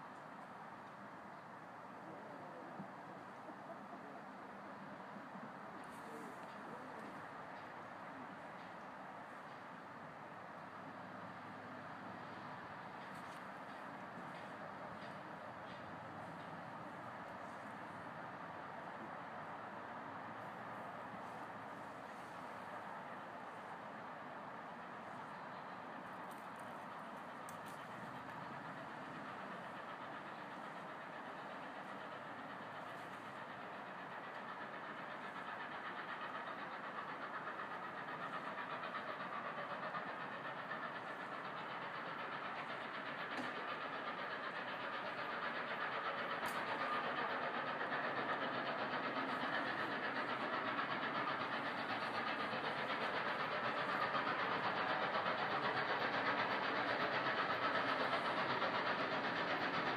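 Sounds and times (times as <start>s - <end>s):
steam locomotive working hard: 0.0s - 59.9s.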